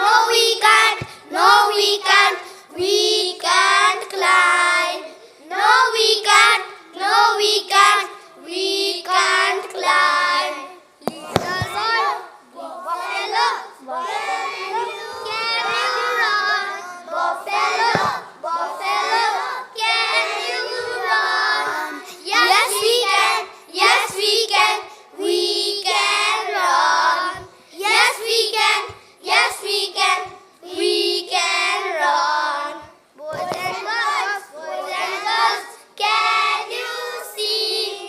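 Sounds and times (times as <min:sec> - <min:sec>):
children chanting in chorus: 0:00.0 - 0:38.0.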